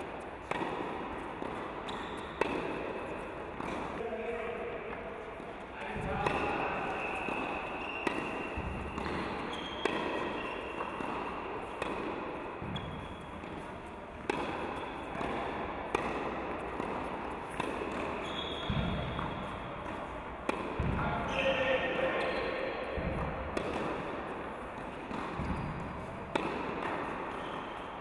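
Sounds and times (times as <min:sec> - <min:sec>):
tennis racket hitting ball: 0:00.0 - 0:04.0, 0:05.8 - 0:21.0, 0:22.8 - 0:27.6.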